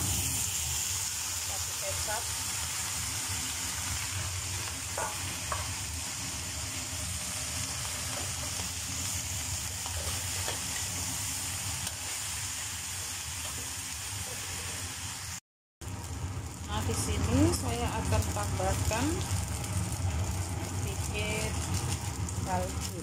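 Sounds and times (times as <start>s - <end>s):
noodles sizzling in a wok: 0.0s - 23.0s.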